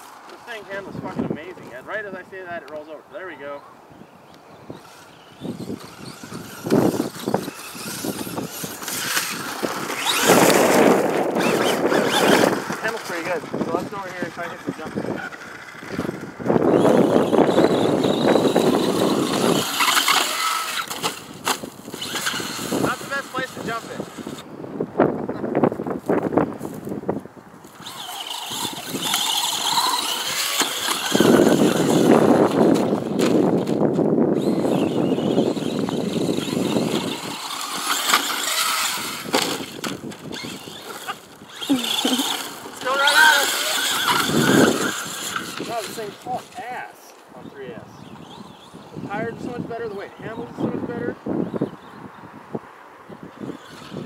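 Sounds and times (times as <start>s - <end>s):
rc truck driving on dirt: 0.0s - 3.6s, 4.5s - 54.0s
wind buffeting microphone: 0.4s - 2.6s, 3.3s - 46.8s, 47.4s - 54.0s.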